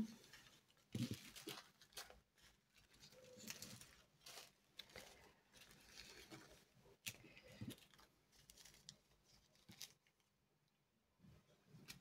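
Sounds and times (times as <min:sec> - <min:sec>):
plastic bags rustling: 0:00.0 - 0:10.3.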